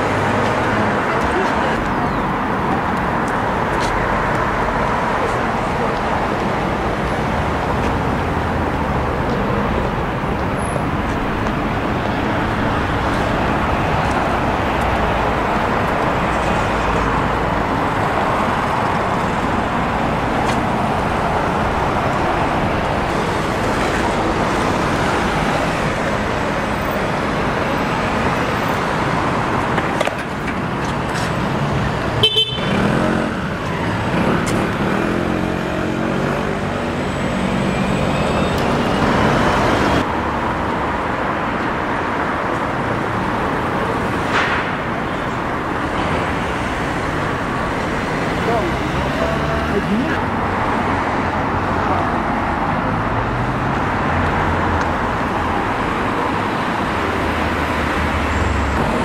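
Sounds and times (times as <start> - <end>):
bus engine passing close: 0.0 - 59.0
road traffic passing: 0.0 - 59.0.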